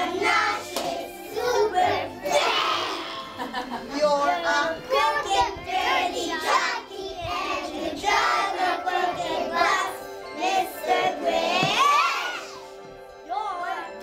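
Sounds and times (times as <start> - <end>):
children singing: 0.0 - 12.8
backing music: 0.0 - 14.0.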